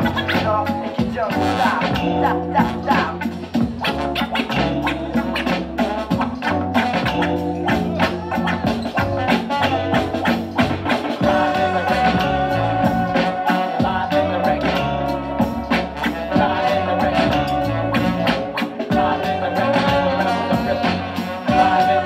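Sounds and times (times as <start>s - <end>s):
bass line: 0.0s - 22.0s
drum beat: 0.0s - 22.0s.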